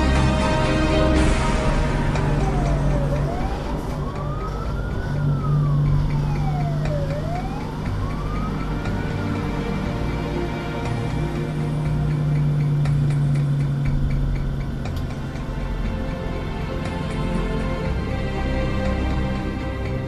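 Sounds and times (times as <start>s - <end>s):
fire engine siren wailing: 0.0s - 20.0s
road noise: 0.0s - 20.0s
truck engine: 0.0s - 20.0s.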